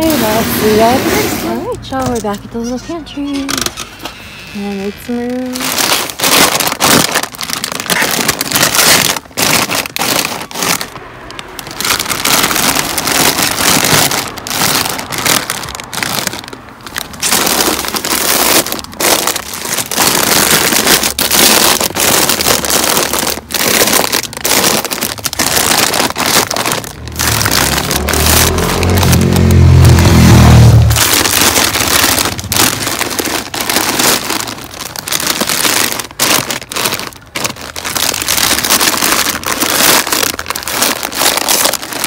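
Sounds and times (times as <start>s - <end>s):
plastic snack bags crinkling: 0.0s - 1.0s, 1.6s - 4.0s, 4.6s - 42.0s.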